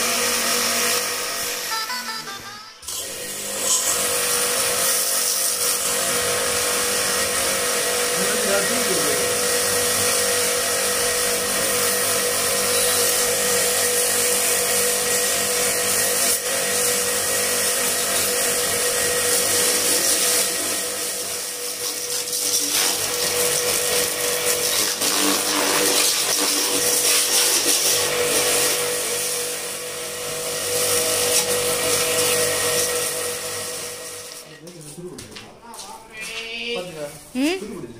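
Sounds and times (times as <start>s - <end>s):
pressure washer motor humming: 0.0s - 34.5s.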